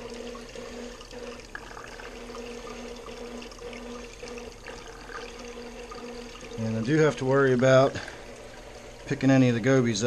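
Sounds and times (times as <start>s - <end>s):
water pouring and trickling: 0.0s - 9.4s.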